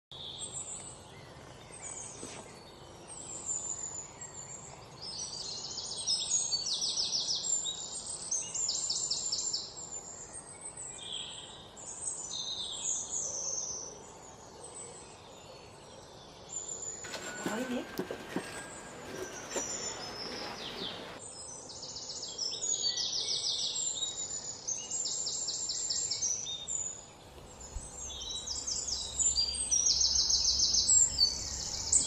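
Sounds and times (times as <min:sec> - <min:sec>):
birds chirping and trilling: 0:00.2 - 0:32.0.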